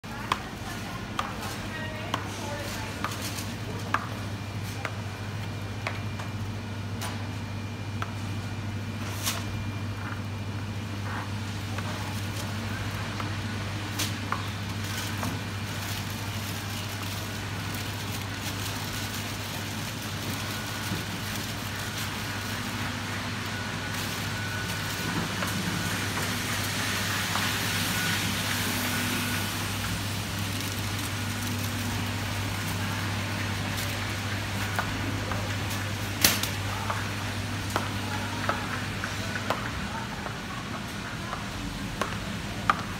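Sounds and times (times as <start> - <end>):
haze of background noise: 0.0 - 42.9.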